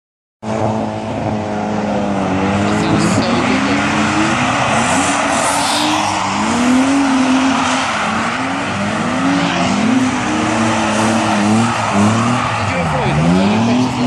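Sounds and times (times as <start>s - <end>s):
car engines revving: 0.4s - 14.0s
tyres sliding on wet track: 1.9s - 14.0s.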